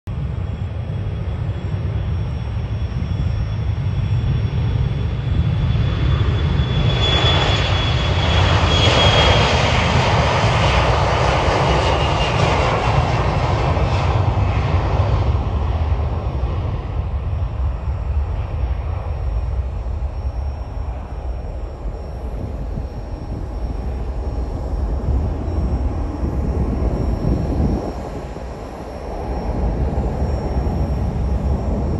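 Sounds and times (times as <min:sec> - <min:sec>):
jet engines at takeoff: 0:00.1 - 0:31.9.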